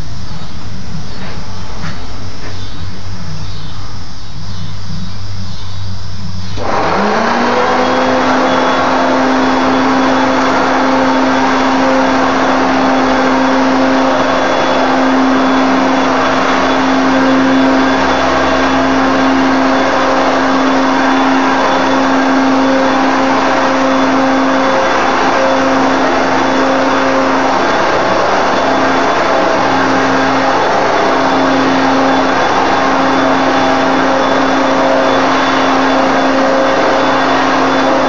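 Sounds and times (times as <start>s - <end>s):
vacuum cleaner motor humming: 6.1s - 38.0s.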